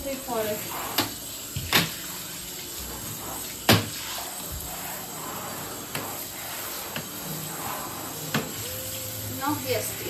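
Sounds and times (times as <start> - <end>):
shower spray hissing: 0.0 - 10.0.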